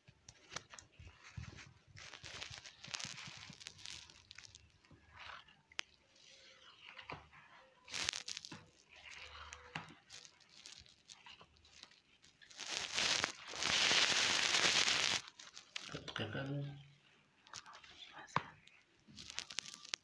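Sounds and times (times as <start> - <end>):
plastic strip crinkling: 0.2 - 7.2, 7.8 - 16.4, 17.4 - 20.0.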